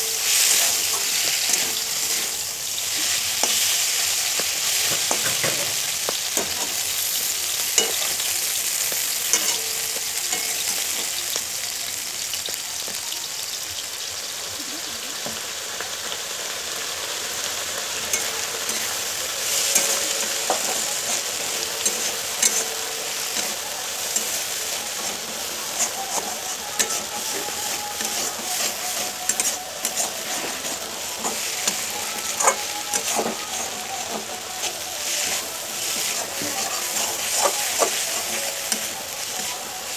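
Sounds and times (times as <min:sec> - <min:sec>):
metal spatula scraping a pan: 0:00.0 - 0:11.4, 0:18.0 - 0:39.9
vegetables sizzling in a wok: 0:00.0 - 0:39.9.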